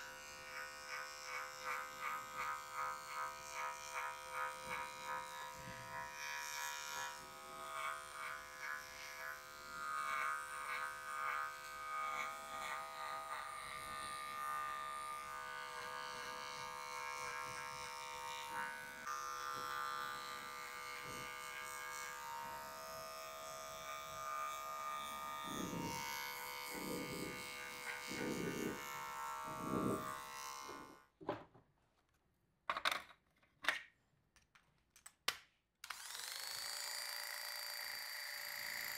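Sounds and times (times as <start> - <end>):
electric hair clippers buzzing: 0.0 - 31.1, 35.8 - 38.9.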